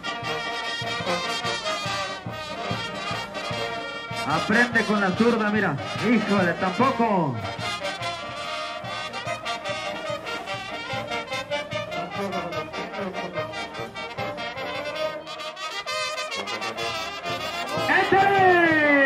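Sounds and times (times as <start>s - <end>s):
steady drum beat: 0.0s - 14.5s, 16.3s - 19.0s
brass band playing: 0.0s - 19.0s.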